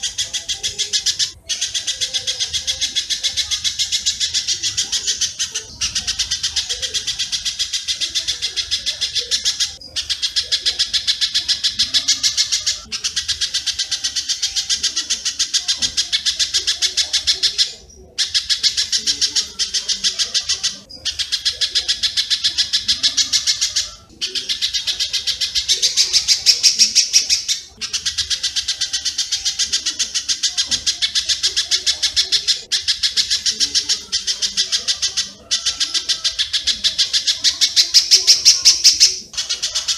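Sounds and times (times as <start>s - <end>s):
high-pitched bird chatter: 0.0s - 39.9s.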